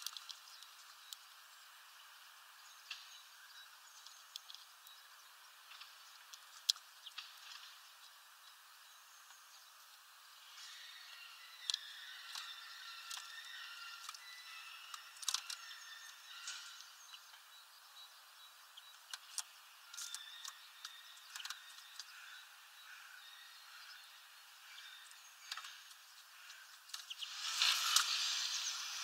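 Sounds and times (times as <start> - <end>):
songbirds twittering: 0.0 - 29.0.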